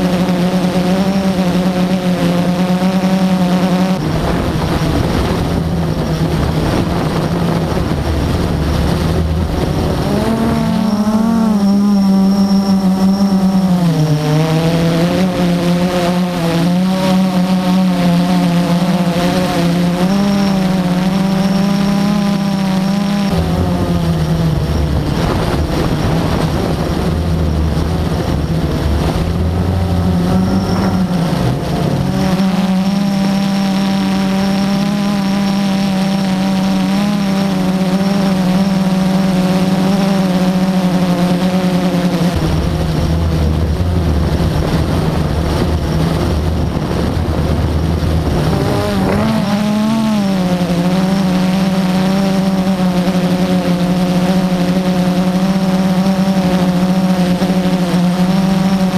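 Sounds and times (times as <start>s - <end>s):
drone propellers droning: 0.0s - 58.9s
wind rumble on microphone: 0.0s - 58.9s.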